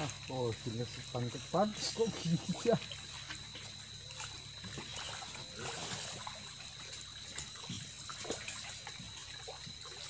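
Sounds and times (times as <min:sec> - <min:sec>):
fish splashing in water: 0:00.0 - 0:10.0.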